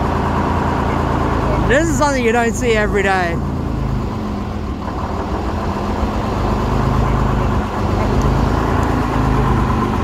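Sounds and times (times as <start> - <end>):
diesel bus engine idling: 0.0 - 10.0.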